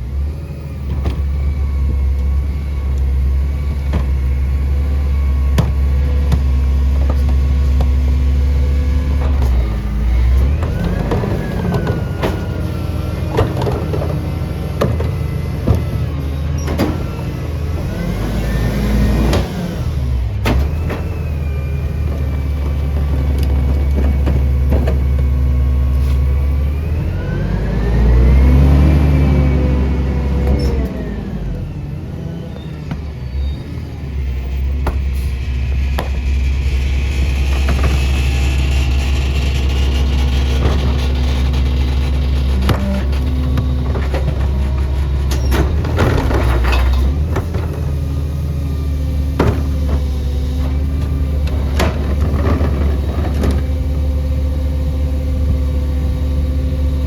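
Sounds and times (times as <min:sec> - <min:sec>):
garbage truck engine revving: 0:00.0 - 0:57.0.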